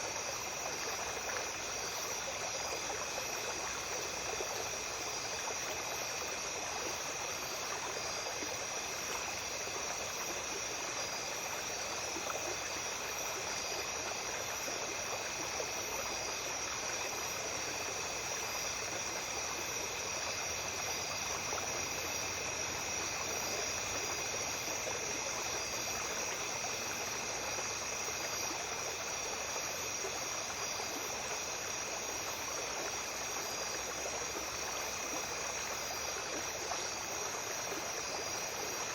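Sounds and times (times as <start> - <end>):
insects chirring: 0.0 - 38.9
stream babbling over stones: 0.0 - 38.9.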